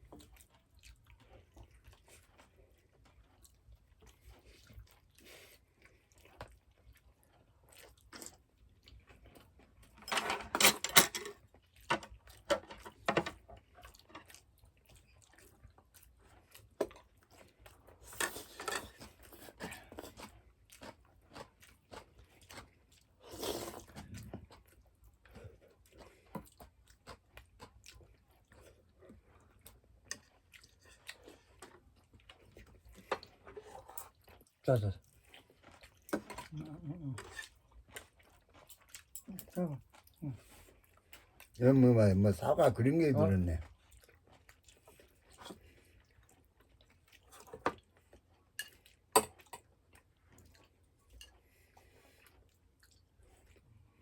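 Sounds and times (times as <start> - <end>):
person chewing and crunching food: 0.0 - 10.5, 11.2 - 41.6, 43.5 - 54.0.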